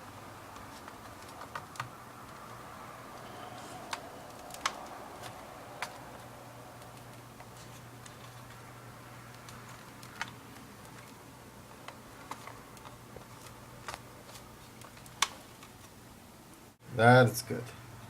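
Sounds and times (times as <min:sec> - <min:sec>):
faint low hum: 0:00.0 - 0:18.0
laptop case parts clicking: 0:00.5 - 0:16.0.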